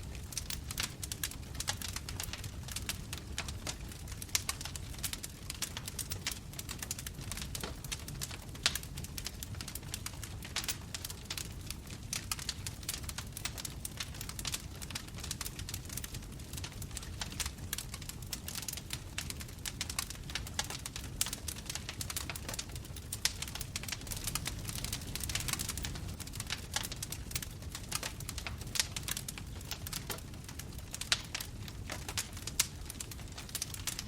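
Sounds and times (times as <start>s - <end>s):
burning wood popping: 0.0s - 34.0s
low rumble of flames: 0.0s - 34.0s.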